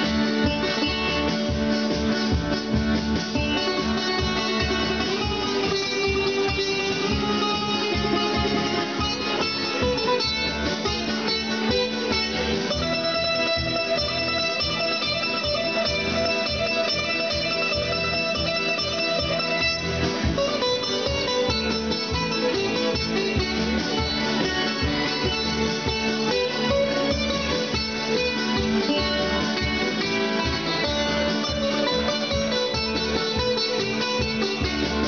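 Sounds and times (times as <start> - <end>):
electric keyboard: 0.0 - 35.0
guitar and plucked strings: 0.0 - 35.0.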